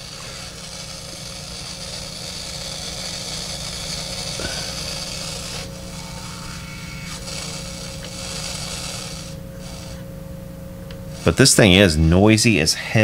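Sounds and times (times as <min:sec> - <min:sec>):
wah pedal hiss through guitar amp: 0:00.0 - 0:10.2, 0:11.0 - 0:12.1
steady hum: 0:00.0 - 0:13.0.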